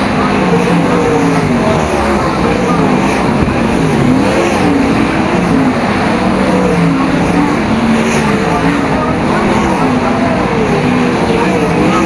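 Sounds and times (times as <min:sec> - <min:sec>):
racing car engines at high revs: 0:00.0 - 0:12.0.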